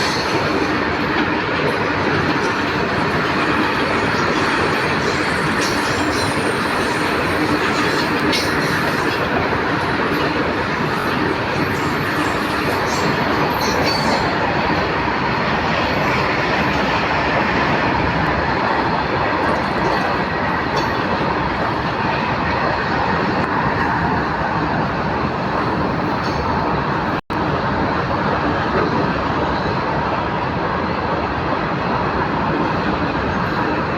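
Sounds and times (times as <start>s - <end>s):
train wheels rumbling on rails: 0.0s - 33.9s.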